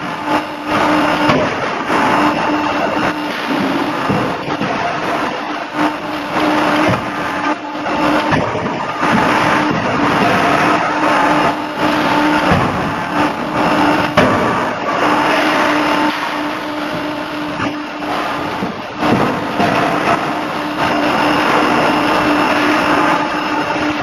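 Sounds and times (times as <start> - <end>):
forging hammer machine din: 0.0 - 24.0.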